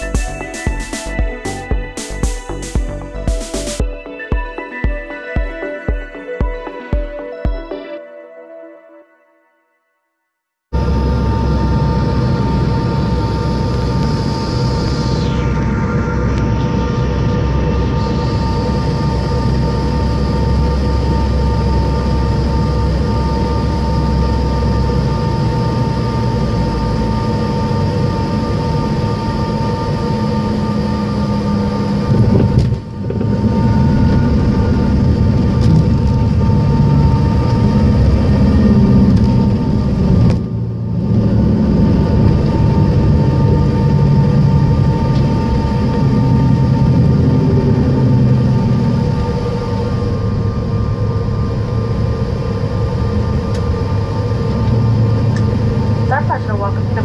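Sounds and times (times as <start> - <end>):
jet engine hum with whining tones: 10.7 - 57.0
jet rumbling on runway: 10.7 - 57.0.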